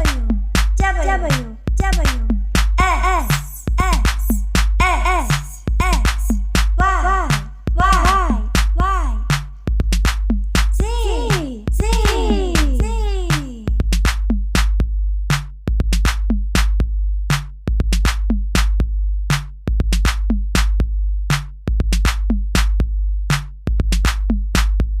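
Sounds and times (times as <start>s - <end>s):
electronic drum-machine beat: 0.0s - 25.0s.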